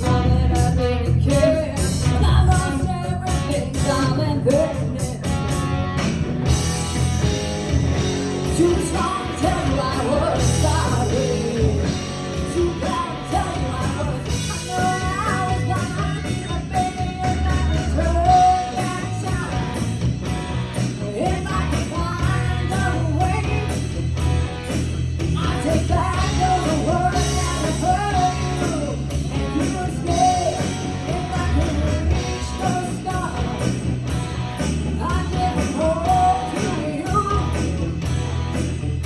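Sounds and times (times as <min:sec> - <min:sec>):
bending electric guitar lead: 0:00.0 - 0:39.0
live rock band playing: 0:00.0 - 0:39.0
steady drum beat: 0:00.0 - 0:39.0.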